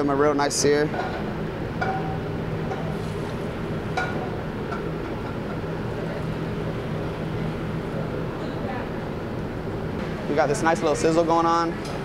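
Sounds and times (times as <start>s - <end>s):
kitchen background rush and hum: 0.0s - 12.0s.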